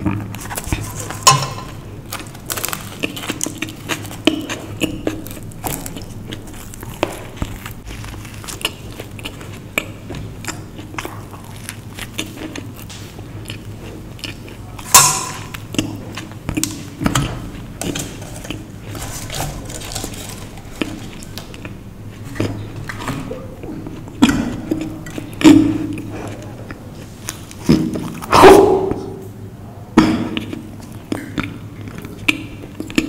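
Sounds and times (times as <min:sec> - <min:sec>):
chewing and wet mouth sounds: 0:00.0 - 0:29.3, 0:30.0 - 0:33.0.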